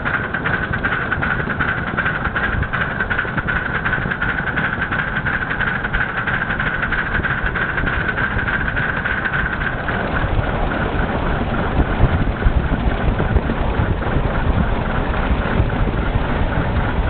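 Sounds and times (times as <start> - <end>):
low rumble: 0.0 - 17.0
steam locomotive exhaust chuffing: 0.0 - 17.0.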